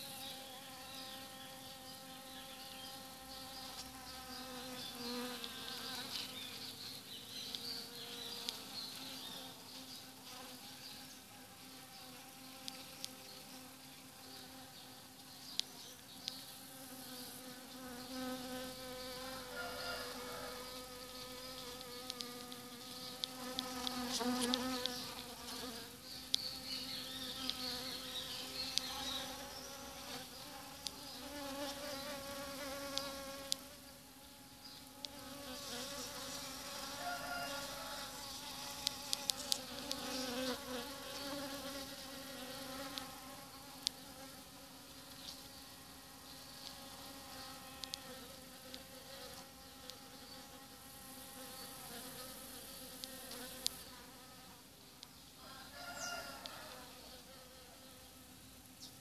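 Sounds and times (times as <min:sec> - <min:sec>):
bees buzzing: 0:00.0 - 0:15.2, 0:15.8 - 0:54.5.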